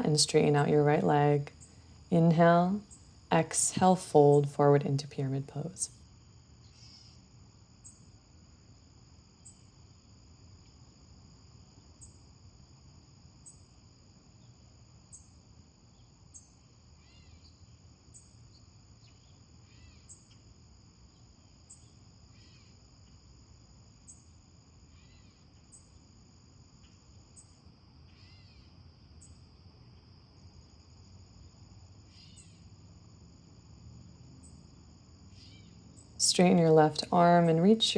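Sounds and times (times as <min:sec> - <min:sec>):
insect chorus: 0:05.1 - 0:37.9.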